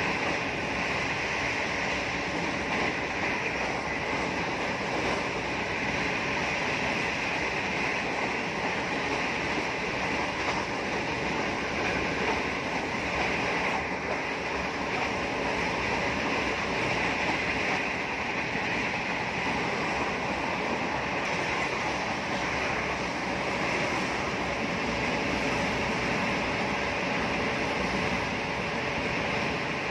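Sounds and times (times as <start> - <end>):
train wheels rushing on track: 0.0 - 29.9.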